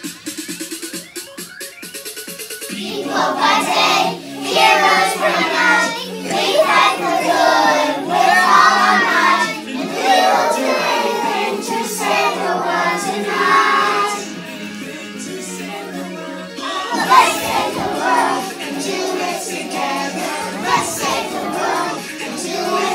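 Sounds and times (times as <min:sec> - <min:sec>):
music playing: 0:00.0 - 0:22.9
children singing in unison: 0:02.7 - 0:22.9.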